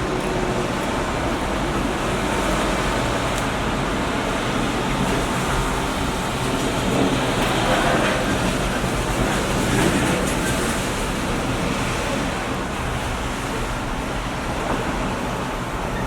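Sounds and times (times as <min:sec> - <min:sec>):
steady roar and hiss: 0:00.0 - 0:16.0.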